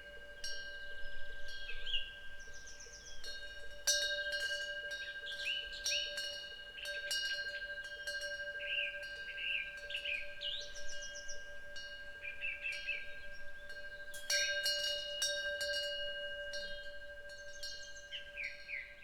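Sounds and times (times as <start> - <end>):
wind bells ringing: 0.0 - 19.0.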